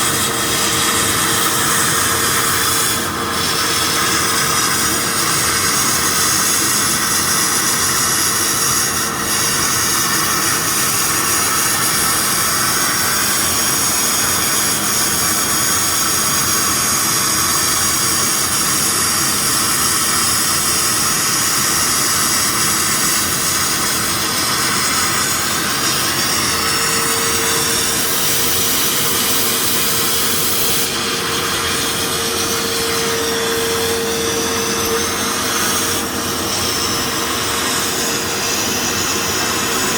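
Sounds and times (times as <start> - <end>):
steady machine whine: 0.0 - 39.9.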